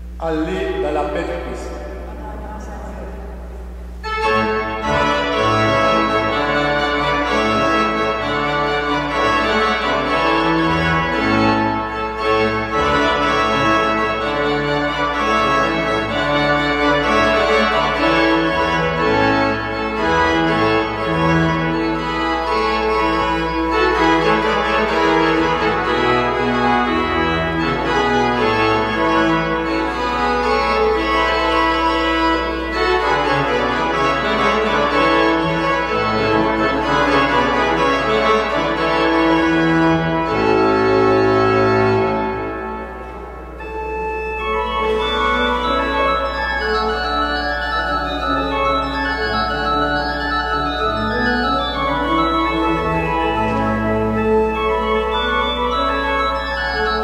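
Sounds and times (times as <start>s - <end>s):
church organ playing chords: 0.0s - 57.0s.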